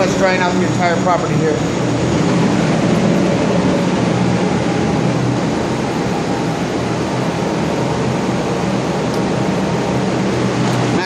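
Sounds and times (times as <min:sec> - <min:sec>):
air mover blowers whooshing: 0:00.0 - 0:11.0.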